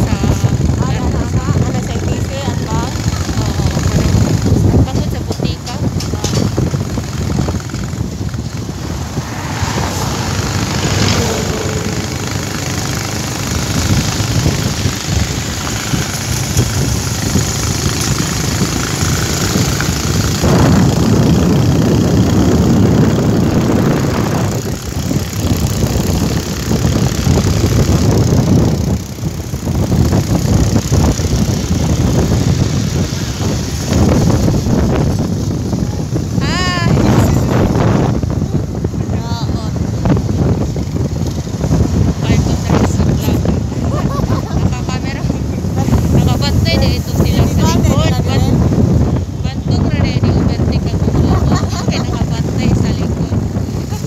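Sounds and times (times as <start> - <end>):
motorcycle engine rumble: 0.0 - 54.0.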